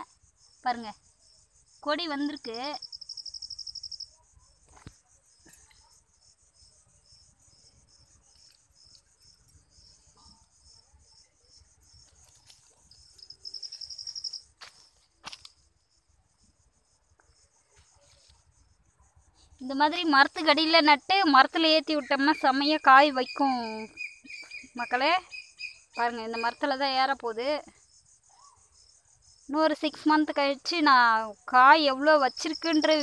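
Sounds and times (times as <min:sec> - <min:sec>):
crickets chirping: 0:00.0 - 0:33.0
high insect hum: 0:00.0 - 0:33.0.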